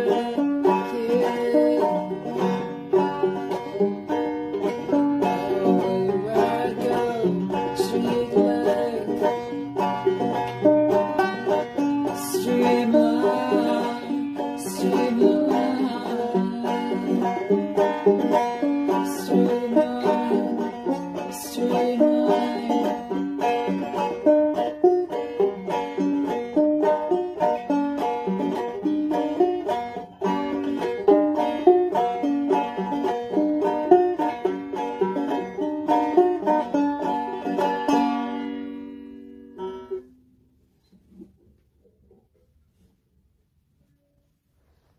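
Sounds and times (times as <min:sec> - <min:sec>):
banjo plucked fast: 0:00.0 - 0:40.1.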